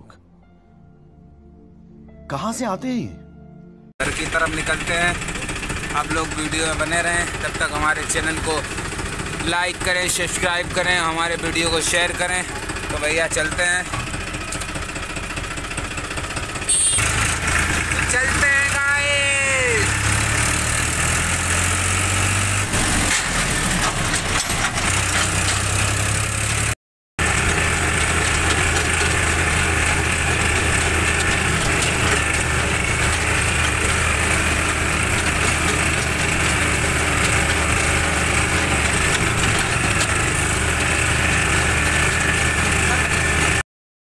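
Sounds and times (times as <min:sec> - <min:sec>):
tractor diesel engine running: 0:04.0 - 0:43.6.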